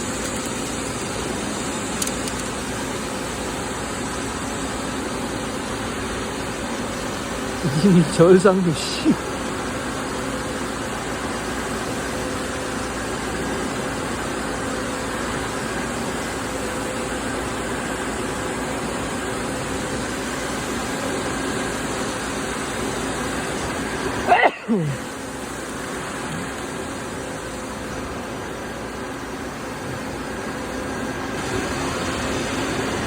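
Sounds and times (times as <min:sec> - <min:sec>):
lathe machining hum: 0:00.0 - 0:33.0.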